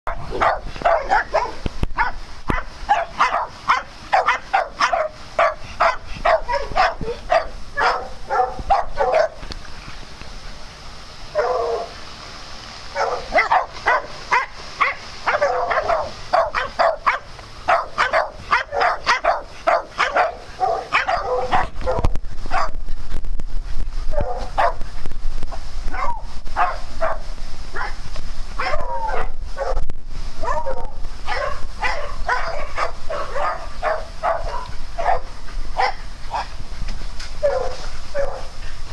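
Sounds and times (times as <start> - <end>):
dogs barking: 0.1 - 9.4, 11.3 - 11.9, 12.9 - 22.8, 24.1 - 24.9, 25.9 - 28.0, 28.6 - 29.8, 30.4 - 36.6, 37.4 - 38.5.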